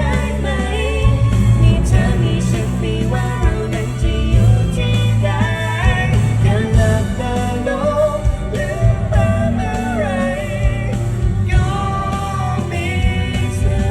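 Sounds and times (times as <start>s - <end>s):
band playing pop music: 0.0s - 13.9s
person singing: 0.0s - 13.9s.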